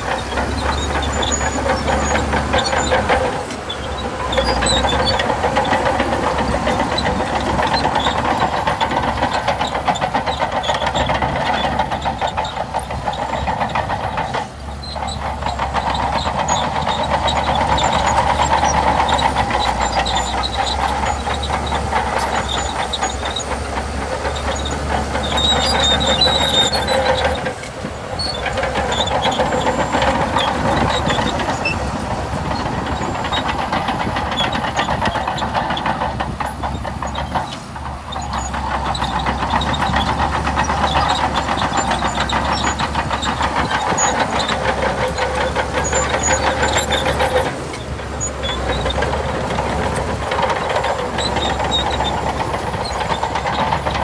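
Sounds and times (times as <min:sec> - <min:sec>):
diesel engine under load: 0:00.0 - 0:54.0
steel tracks clattering: 0:00.0 - 0:54.0.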